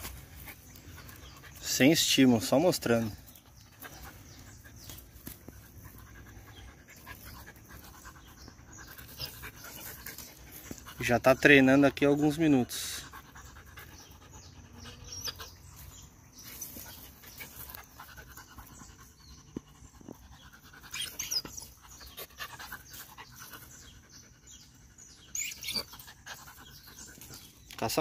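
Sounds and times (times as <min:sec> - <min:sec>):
puppy panting: 0:00.0 - 0:27.7.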